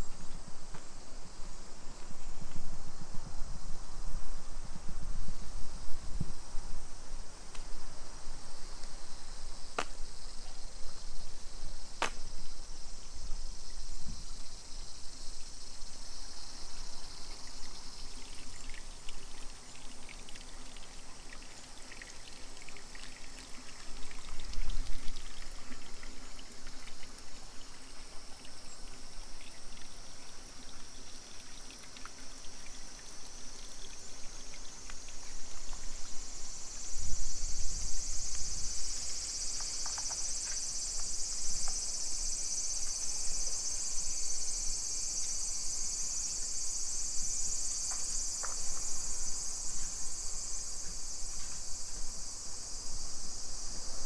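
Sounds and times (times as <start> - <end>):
faint outdoor ambience: 0.0 - 54.0
insects chirping: 0.0 - 54.0.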